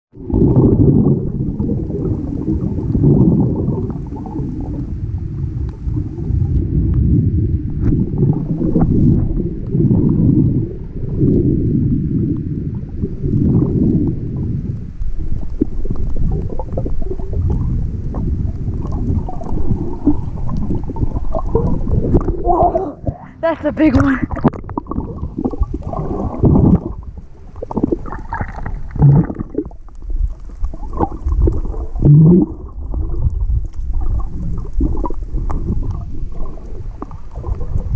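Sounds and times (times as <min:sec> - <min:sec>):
muffled underwater rumble: 0:00.1 - 0:37.9.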